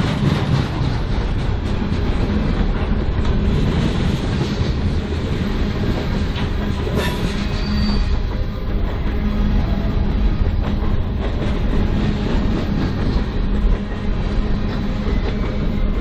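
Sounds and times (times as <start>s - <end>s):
train rumble: 0.0s - 16.0s
train wheels clacking over rail joints: 0.0s - 16.0s.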